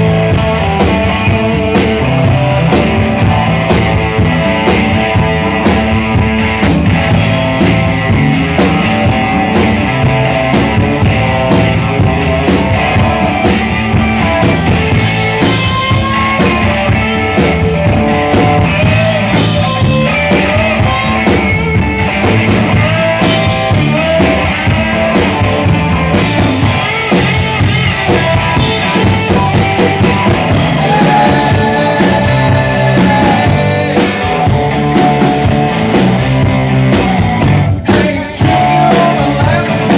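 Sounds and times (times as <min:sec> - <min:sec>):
bass guitar: 0:00.0 - 0:39.9
drum kit: 0:00.0 - 0:39.9
electric guitars: 0:00.0 - 0:39.9.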